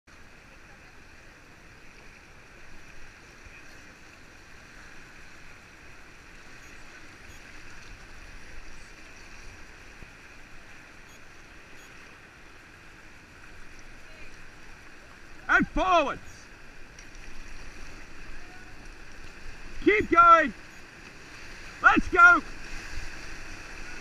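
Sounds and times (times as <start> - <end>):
river water rushing: 0.1 - 24.0.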